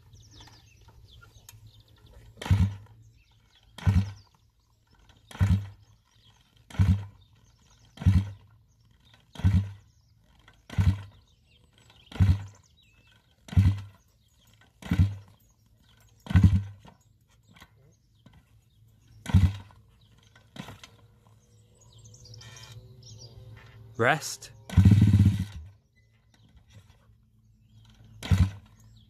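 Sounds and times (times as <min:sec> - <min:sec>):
engine kick-start chuffs: 0:00.1 - 0:23.8, 0:24.6 - 0:29.0.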